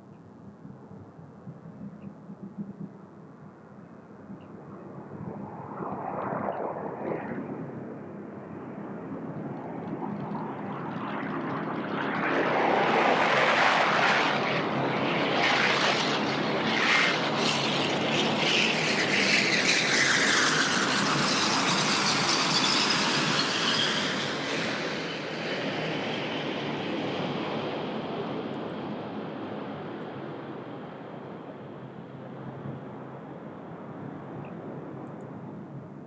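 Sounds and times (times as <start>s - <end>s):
jet aircraft passing overhead: 3.4s - 36.0s.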